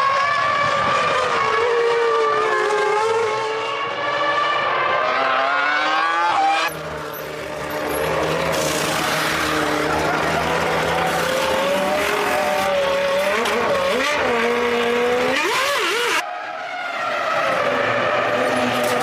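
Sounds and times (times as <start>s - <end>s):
racing car engines at high revs: 0.0s - 19.0s.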